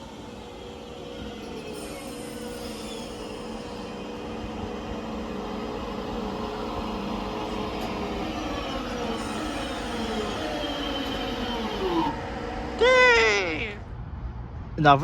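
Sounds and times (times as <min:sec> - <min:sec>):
train mechanical hum: 0:00.0 - 0:15.0.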